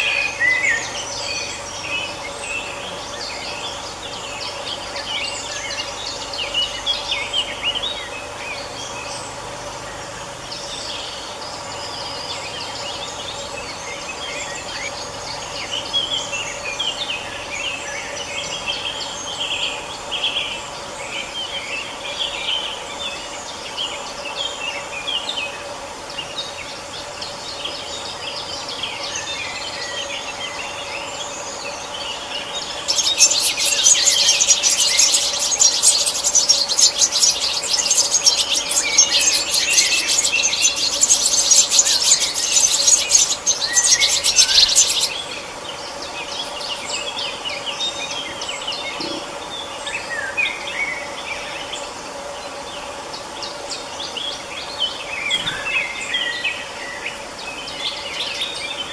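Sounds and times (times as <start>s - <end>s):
birds chirping and calling: 0.0s - 58.9s
flock of small birds chattering: 0.0s - 58.9s.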